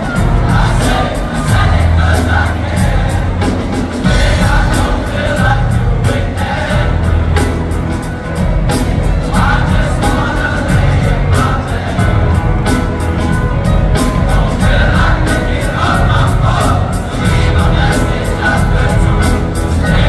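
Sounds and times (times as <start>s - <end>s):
group of men singing: 0.0s - 20.0s.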